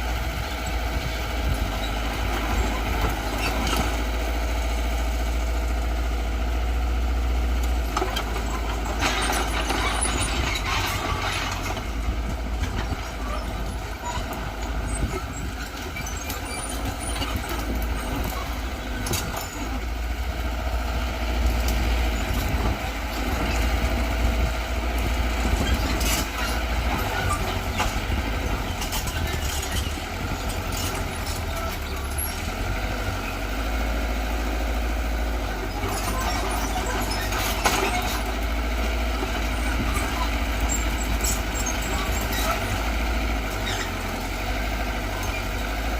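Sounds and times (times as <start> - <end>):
bulldozer diesel engine rumbling: 0.0 - 45.9.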